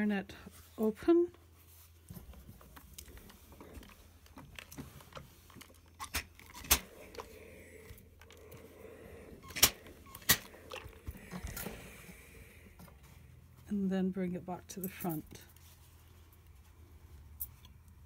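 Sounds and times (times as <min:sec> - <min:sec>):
soft fabric rustle: 0:00.0 - 0:05.6, 0:06.9 - 0:18.0.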